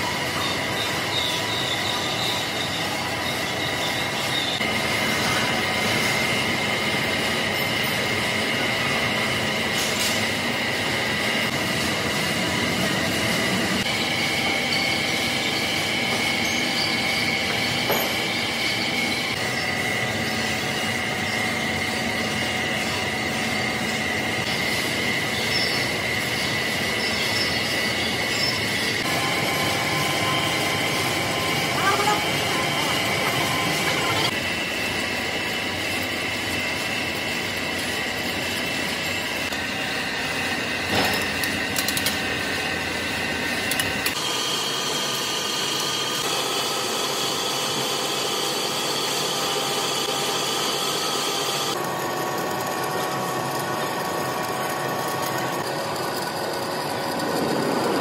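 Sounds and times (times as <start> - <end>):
lathe cutting tool squealing: 0.0 - 58.0
machine running hum: 0.0 - 58.0.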